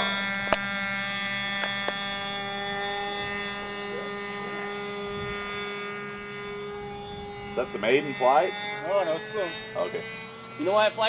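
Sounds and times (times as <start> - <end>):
model airplane motor buzzing: 0.0 - 11.0.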